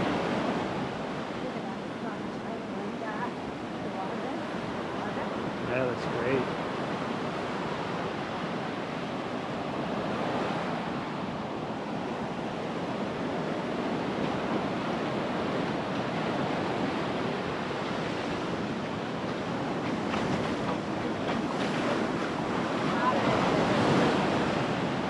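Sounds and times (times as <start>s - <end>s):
ocean surf washing ashore: 0.0s - 25.0s.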